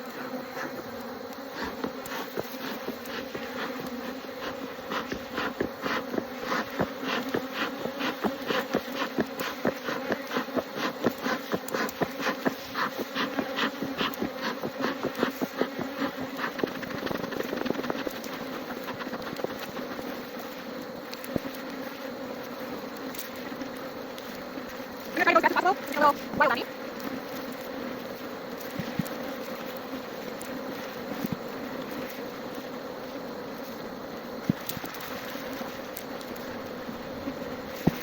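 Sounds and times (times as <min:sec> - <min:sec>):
honeybees buzzing: 0:00.0 - 0:38.0.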